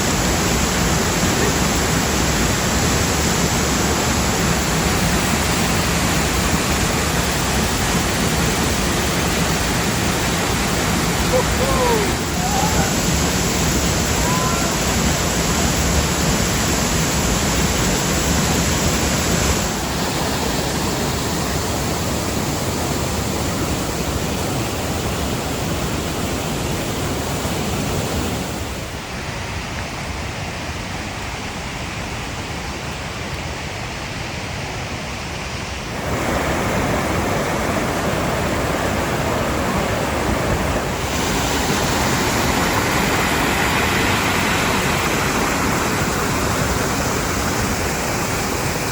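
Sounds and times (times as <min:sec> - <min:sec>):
fast-flowing creek water: 0:00.0 - 0:48.9
waterfall rushing: 0:00.0 - 0:48.9.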